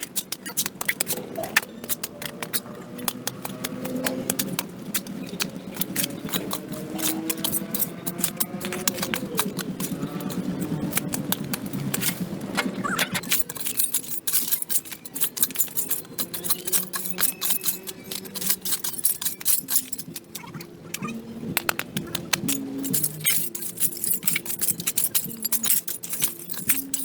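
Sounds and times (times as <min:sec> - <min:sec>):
hand tool scraping sidewalk: 0:00.0 - 0:20.4, 0:21.6 - 0:27.0.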